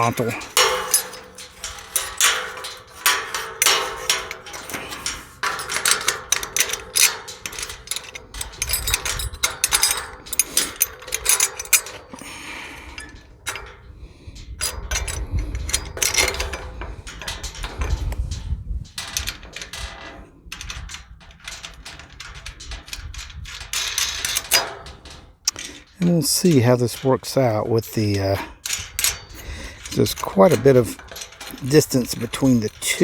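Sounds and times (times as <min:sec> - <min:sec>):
metal latch knocking on metal gate: 0:00.0 - 0:12.2, 0:12.8 - 0:13.9, 0:14.5 - 0:33.0.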